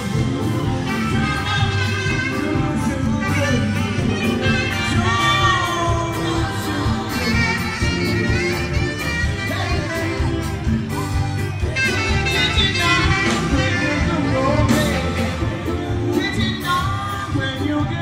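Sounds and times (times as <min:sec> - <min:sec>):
drums and bass beat: 0:00.0 - 0:18.0
person singing: 0:00.0 - 0:18.0.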